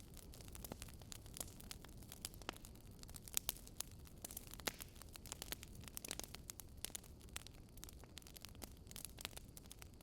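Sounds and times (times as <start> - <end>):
campfire crackling and popping: 0.0 - 10.0
low steady fire hiss: 0.0 - 10.0.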